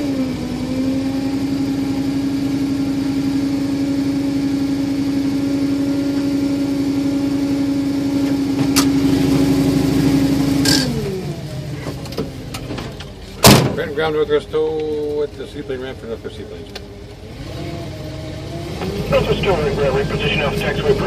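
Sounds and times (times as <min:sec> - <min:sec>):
truck engine whining: 0:00.0 - 0:21.0.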